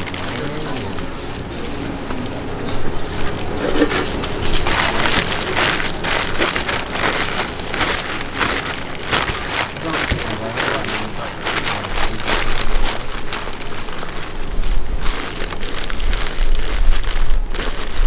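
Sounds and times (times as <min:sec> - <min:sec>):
dough squelching: 0:00.0 - 0:18.0
plastic bag crinkling: 0:00.0 - 0:18.0.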